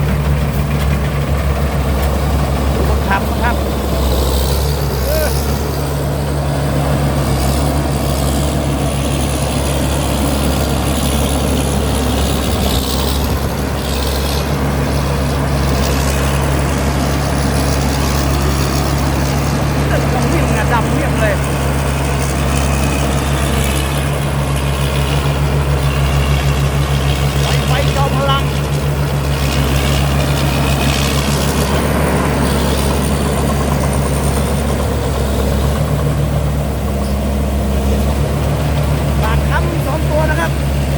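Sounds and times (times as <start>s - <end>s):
diesel engine humming: 0.0s - 40.9s
working machinery noise: 0.0s - 40.9s.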